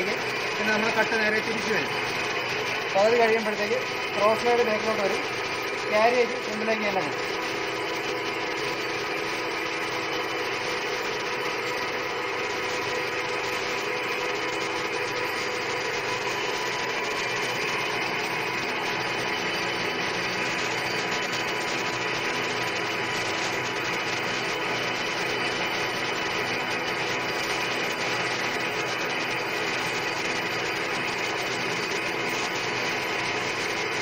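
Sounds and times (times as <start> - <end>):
lathe whirring: 0.0 - 34.0.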